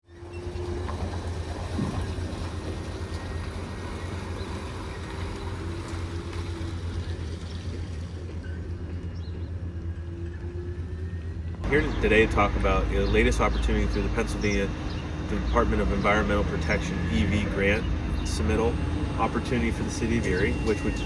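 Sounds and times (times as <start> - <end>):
garbage truck low hum: 0.0 - 21.0.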